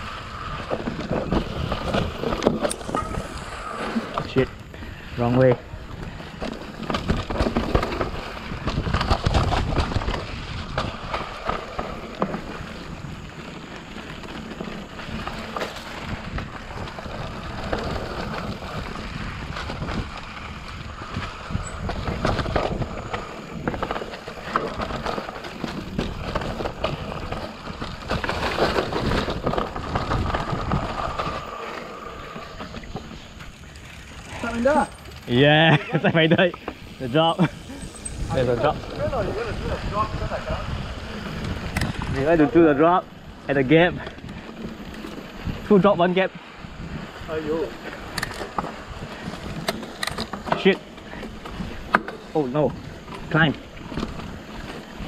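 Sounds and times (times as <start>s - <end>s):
bike clicks and rattles: 0.0s - 55.0s
tyres rumbling over dirt trail: 0.0s - 55.0s
wind buffeting microphone: 0.0s - 55.0s.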